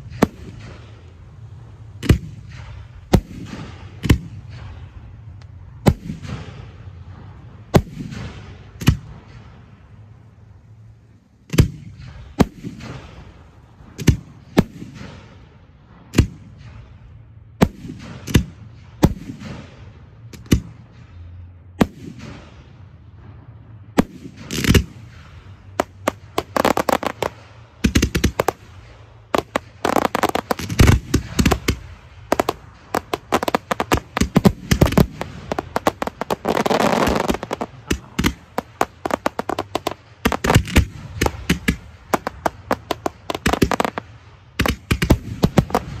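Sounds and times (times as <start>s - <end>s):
fireworks crackle: 0.0s - 16.9s, 24.0s - 46.0s
fireworks bursting with bangs: 0.0s - 46.0s.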